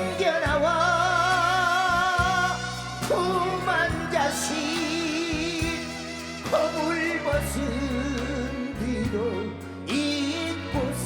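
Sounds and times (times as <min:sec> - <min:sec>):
backing band: 0:00.0 - 0:11.0
person singing with vibrato: 0:00.0 - 0:11.0.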